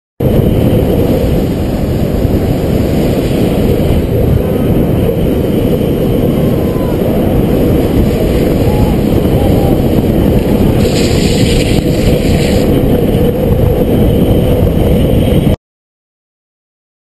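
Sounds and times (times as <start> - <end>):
board rolling on asphalt: 0.2 - 15.6
wind rushing on microphone: 0.2 - 15.6.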